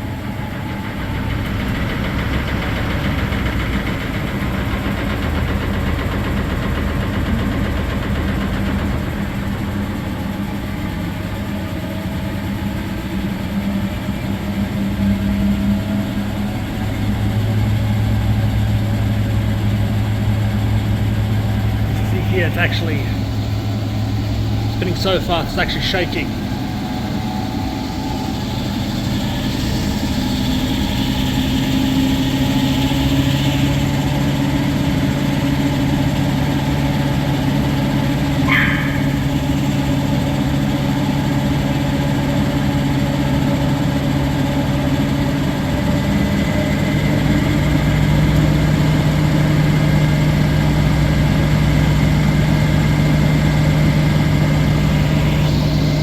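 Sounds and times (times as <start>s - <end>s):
washing machine spinning: 0.0s - 22.3s, 23.0s - 24.9s, 26.2s - 56.0s.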